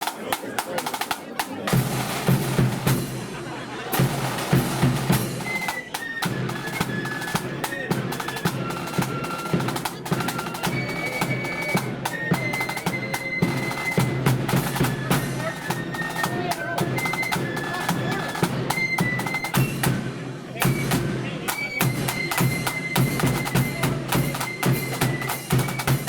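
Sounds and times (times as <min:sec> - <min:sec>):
snare drum rolls: 0:00.0 - 0:26.0
flute melody: 0:03.9 - 0:26.0.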